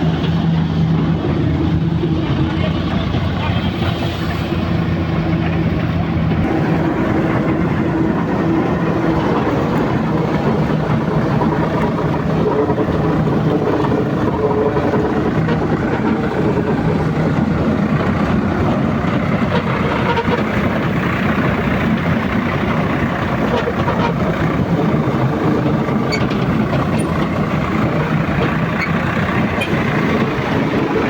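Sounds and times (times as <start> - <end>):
heavy diesel machinery running: 0.0 - 31.0.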